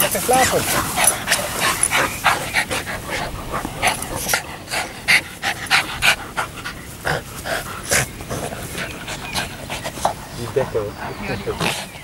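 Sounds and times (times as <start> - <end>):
dogs panting: 0.0 - 12.0.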